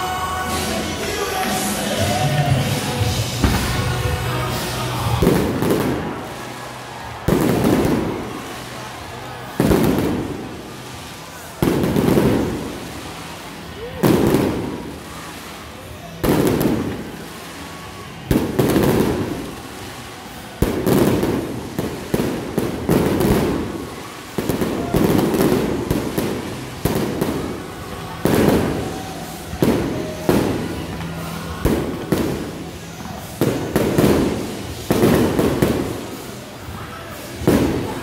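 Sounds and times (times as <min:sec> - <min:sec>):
fireworks bangs: 0:00.0 - 0:38.0
fireworks rumble: 0:00.0 - 0:38.0.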